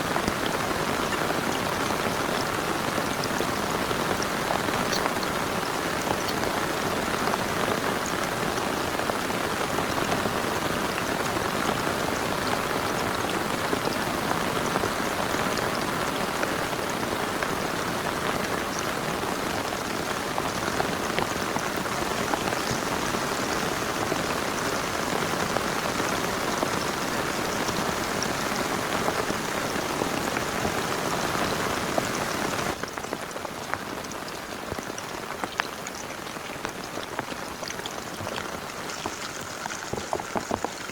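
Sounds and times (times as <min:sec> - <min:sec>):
heavy rain falling: 0:00.0 - 0:40.9
raindrops ticking: 0:00.0 - 0:40.9.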